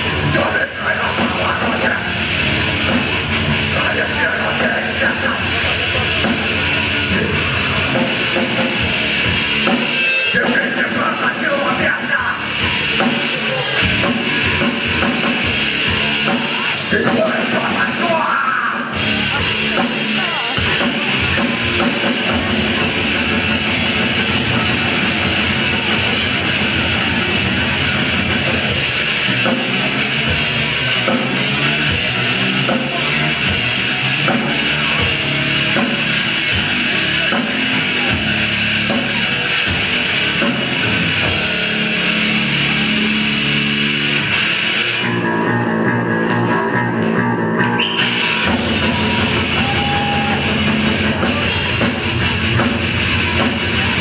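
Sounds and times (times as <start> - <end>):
drums and cymbals: 0.0 - 54.0
rock band playing live: 0.0 - 54.0.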